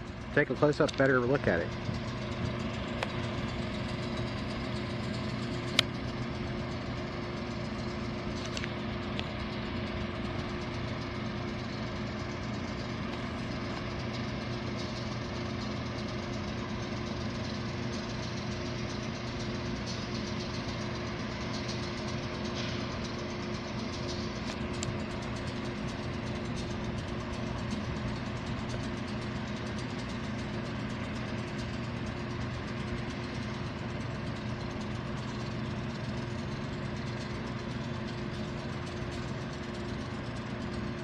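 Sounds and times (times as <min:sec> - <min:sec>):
locomotive engines idling: 0:00.0 - 0:41.0.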